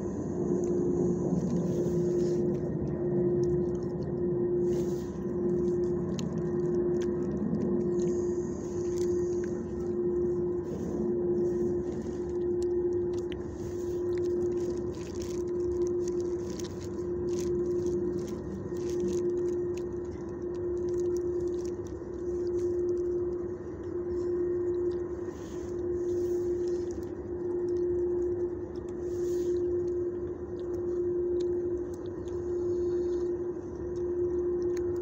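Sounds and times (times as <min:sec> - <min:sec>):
mechanical hum: 0:00.0 - 0:35.0.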